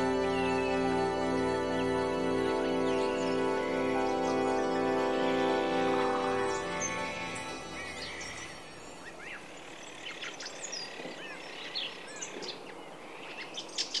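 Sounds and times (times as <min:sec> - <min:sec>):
small birds chirping: 0:00.0 - 0:14.0
steady outdoor hiss: 0:00.0 - 0:14.0.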